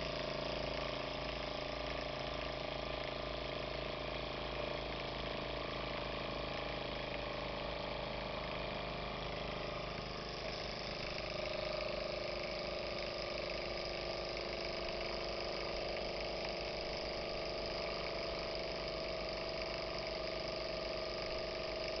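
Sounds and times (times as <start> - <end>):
flywheel whirring: 0.0 - 22.0.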